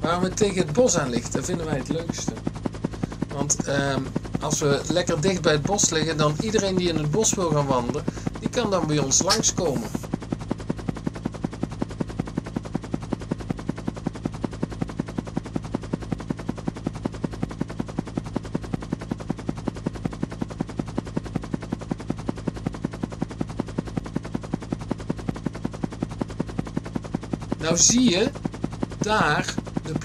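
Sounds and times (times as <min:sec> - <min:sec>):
helicopter rotor thumping: 0:00.0 - 0:30.0.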